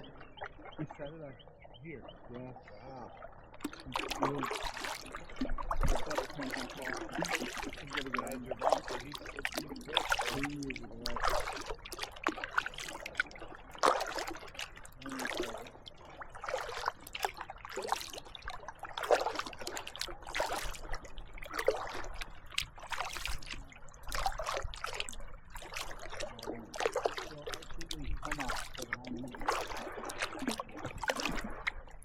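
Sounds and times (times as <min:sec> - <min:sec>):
paddle splashing into water: 0:02.2 - 0:32.0
water dripping: 0:02.3 - 0:32.0.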